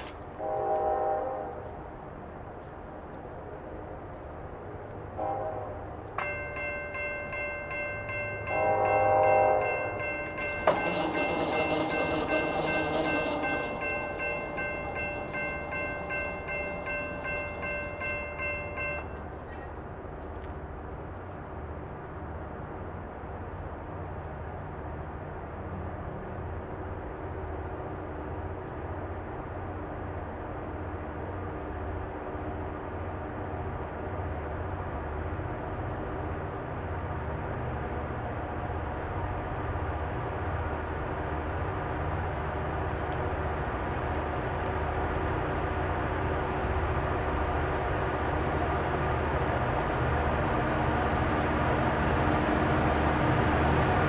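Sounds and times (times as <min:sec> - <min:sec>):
diesel locomotives droning: 0:00.0 - 0:54.0.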